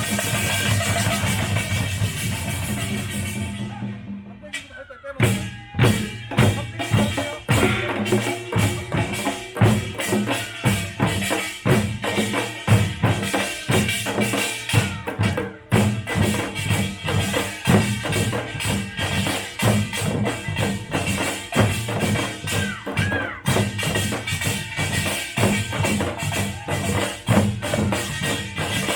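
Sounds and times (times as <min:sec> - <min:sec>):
drums in fast rhythm: 0:00.0 - 0:28.9.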